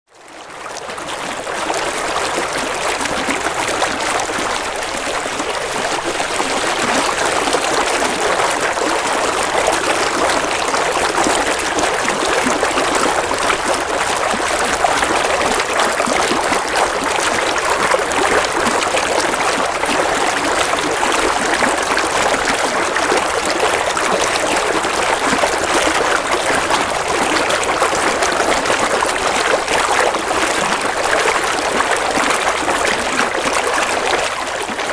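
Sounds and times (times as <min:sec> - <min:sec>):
stream trickling over stones: 0:00.4 - 0:34.9.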